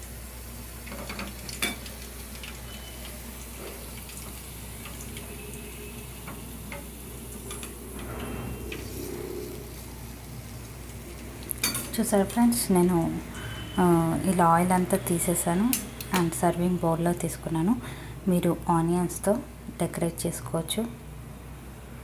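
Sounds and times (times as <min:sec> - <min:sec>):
frying oil crackling: 0:00.0 - 0:20.2.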